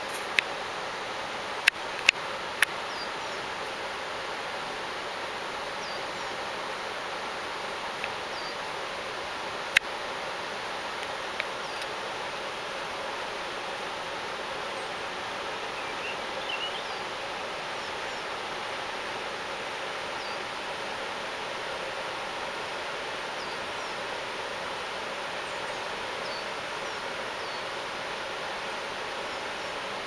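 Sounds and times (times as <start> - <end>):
river rushing: 0.0 - 30.0.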